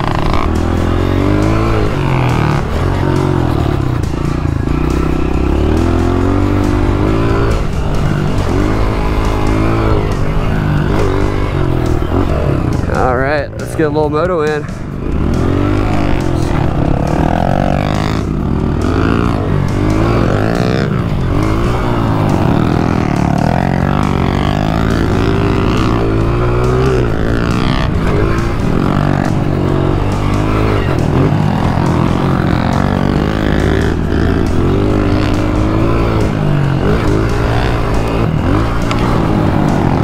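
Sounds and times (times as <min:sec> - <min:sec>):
pit bike engine revving: 0:00.0 - 0:40.0.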